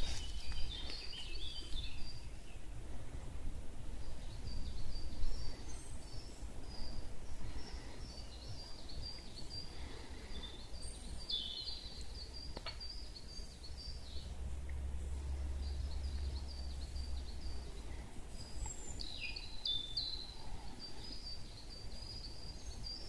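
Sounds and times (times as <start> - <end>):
low rumble on microphone: 0.0 - 23.0
songbirds singing: 0.0 - 23.0.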